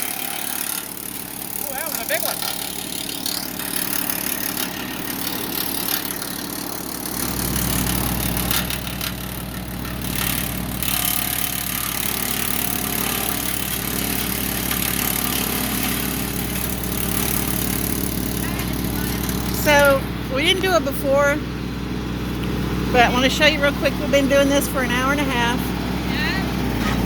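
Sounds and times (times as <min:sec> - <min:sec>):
wood chipper engine running: 0:00.0 - 0:27.0.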